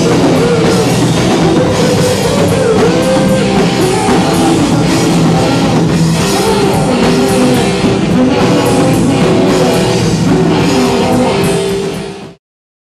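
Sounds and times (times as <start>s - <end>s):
live rock band playing: 0.0s - 12.4s.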